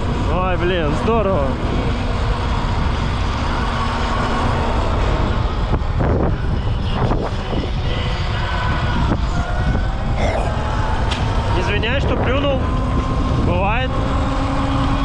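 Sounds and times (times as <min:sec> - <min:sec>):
faint steady whine: 0:00.0 - 0:15.0
wind buffeting the microphone: 0:00.0 - 0:15.0.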